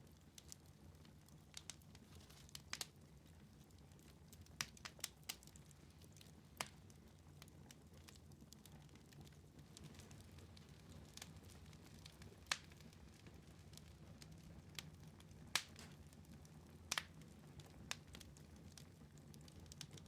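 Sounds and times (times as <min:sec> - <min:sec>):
low rumble of burning fire: 0:00.0 - 0:20.0
wood fire crackling and popping: 0:00.0 - 0:20.0.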